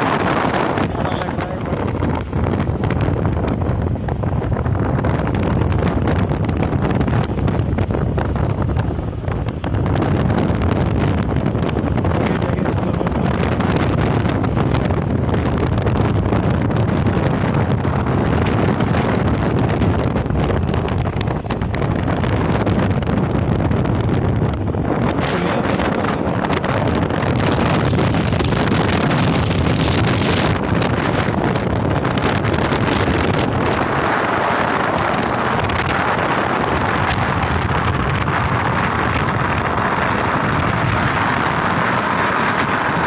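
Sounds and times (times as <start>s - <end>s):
motorcycle riding noise: 0.0s - 43.0s
wind buffeting microphone: 0.0s - 43.0s.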